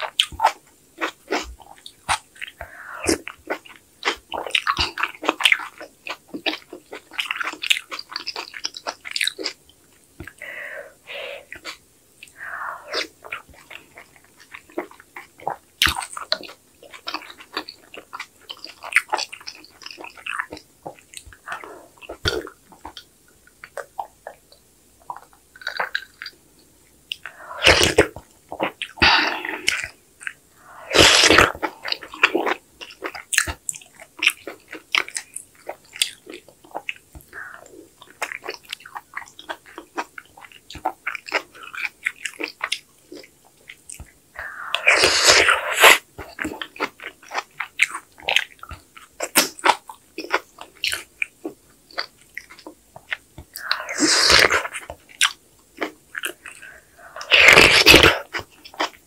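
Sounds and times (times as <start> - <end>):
close chewing mouth sounds: 0.0 - 59.0.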